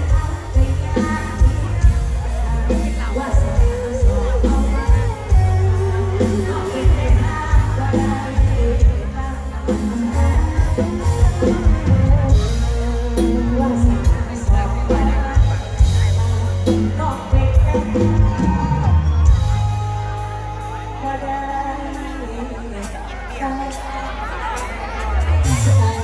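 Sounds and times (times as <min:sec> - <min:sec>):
woman singing with vibrato: 0:00.0 - 0:24.7
live amplified band music: 0:00.0 - 0:26.0.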